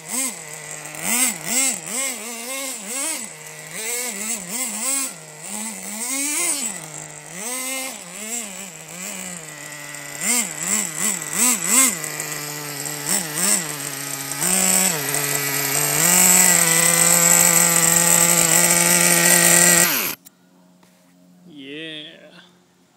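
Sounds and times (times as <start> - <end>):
model truck engine revving: 0.0 - 20.2.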